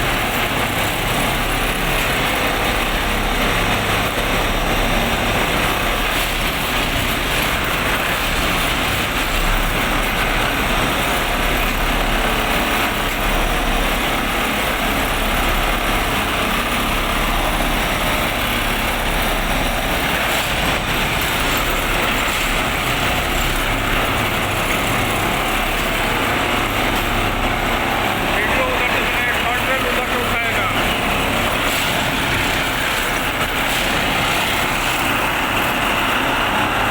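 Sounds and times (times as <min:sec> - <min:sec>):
industrial machine running: 0:00.0 - 0:36.9.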